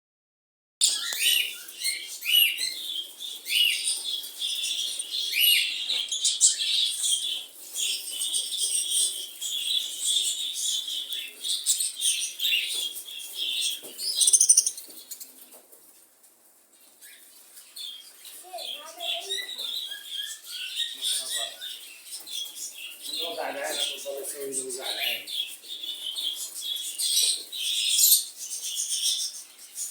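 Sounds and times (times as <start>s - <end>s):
birds chirping and calling: 0.8s - 29.9s.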